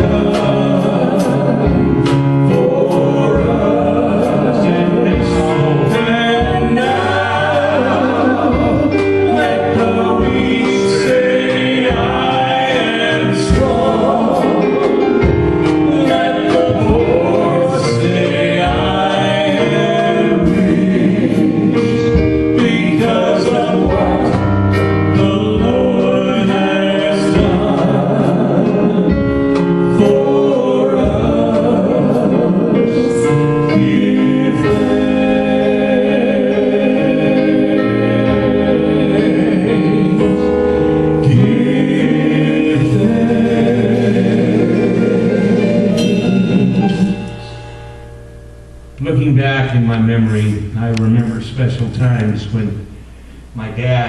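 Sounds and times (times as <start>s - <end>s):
group singing worship music: 0.0s - 54.0s.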